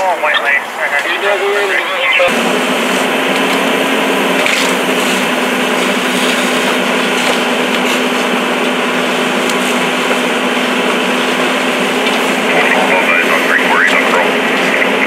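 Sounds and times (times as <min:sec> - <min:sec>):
motor humming: 0:02.3 - 0:15.0.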